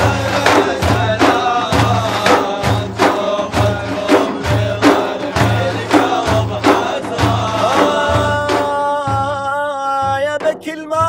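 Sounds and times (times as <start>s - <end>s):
frame drums beating: 0.0s - 11.0s
men chanting a melody: 0.0s - 11.0s.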